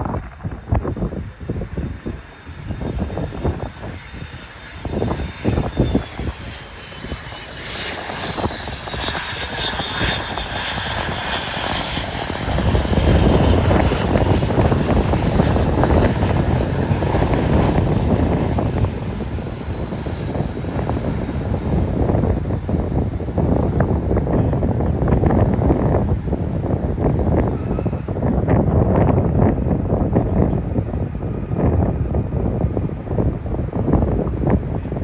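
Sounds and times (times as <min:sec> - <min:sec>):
jet airliner passing: 0:00.0 - 0:35.0
wind buffeting microphone: 0:00.0 - 0:35.0.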